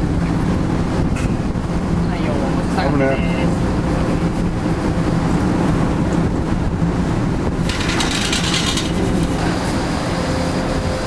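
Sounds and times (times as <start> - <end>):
ferry engines humming: 0.0 - 11.0.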